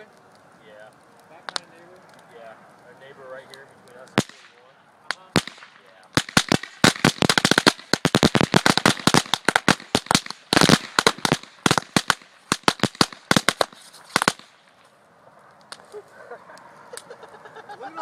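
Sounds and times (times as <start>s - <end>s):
firecrackers banging: 0.0s - 18.0s.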